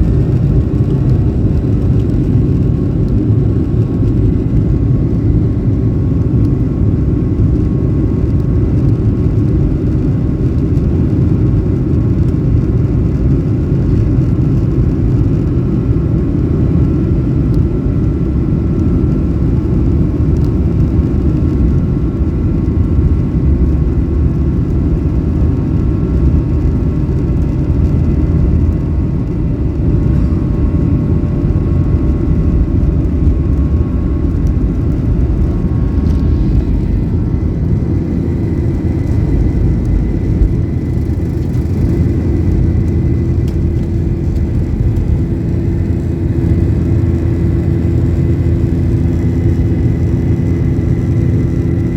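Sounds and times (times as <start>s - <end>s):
airliner cabin rumble: 0.0s - 51.9s
faint steady whine: 0.0s - 51.9s.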